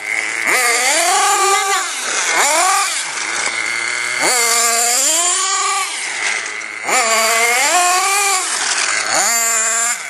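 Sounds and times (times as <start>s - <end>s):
small engine revving: 0.0s - 10.0s.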